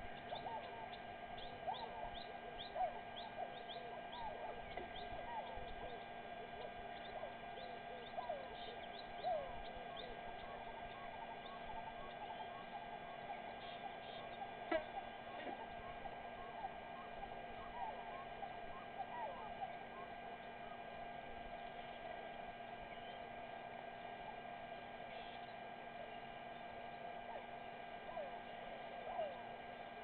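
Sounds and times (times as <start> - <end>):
birds chirping and whistling: 0.0 - 23.4, 24.9 - 30.0
faint steady hum: 0.0 - 30.0.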